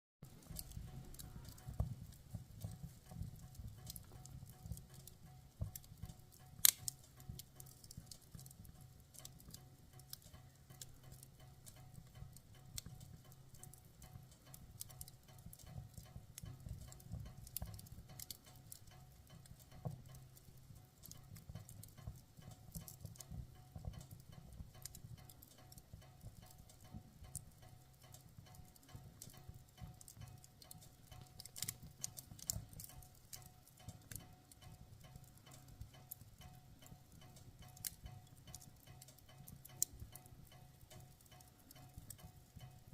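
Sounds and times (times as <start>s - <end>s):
campfire crackling and popping: 0.2s - 42.9s.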